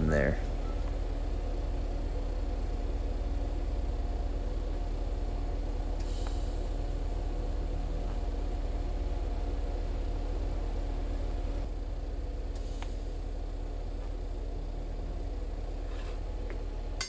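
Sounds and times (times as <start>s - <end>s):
welder electrical hum: 0.0s - 17.0s.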